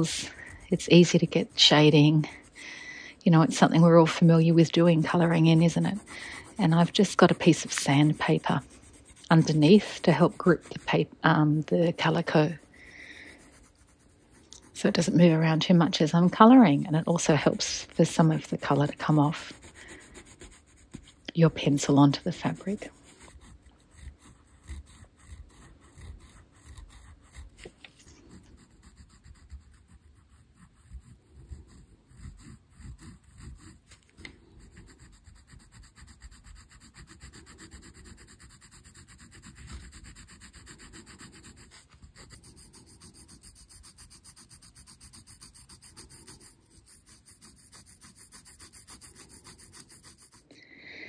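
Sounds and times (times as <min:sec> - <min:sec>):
pencil rubbing on fabric: 0:00.0 - 0:50.6.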